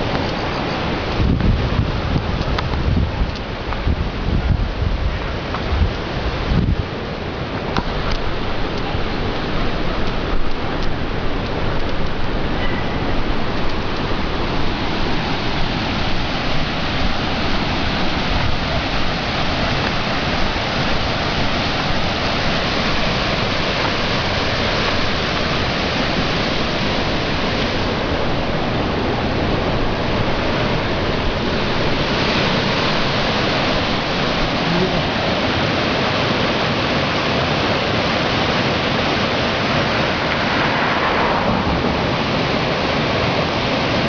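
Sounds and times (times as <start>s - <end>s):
fast river water rushing: 0.0s - 44.0s.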